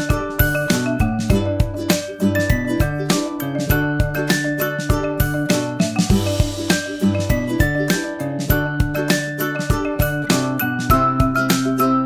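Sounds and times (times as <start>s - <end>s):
melodic music over steady beat: 0.0s - 12.0s.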